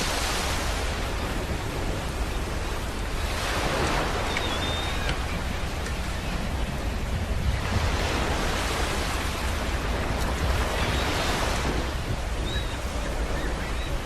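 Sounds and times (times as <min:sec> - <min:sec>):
sea surf washing in: 0:00.0 - 0:14.0.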